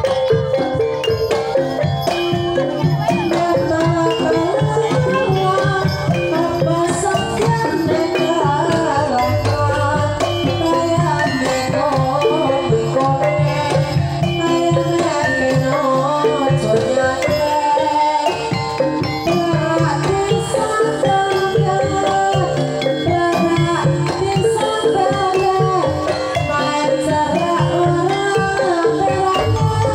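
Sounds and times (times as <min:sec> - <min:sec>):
hand drums: 0:00.0 - 0:29.9
wavering melody line: 0:00.0 - 0:29.9.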